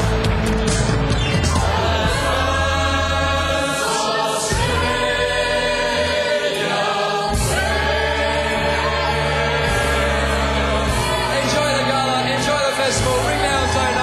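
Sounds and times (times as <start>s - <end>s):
choir singing in harmony: 0.0s - 14.0s
musical backing: 0.0s - 14.0s.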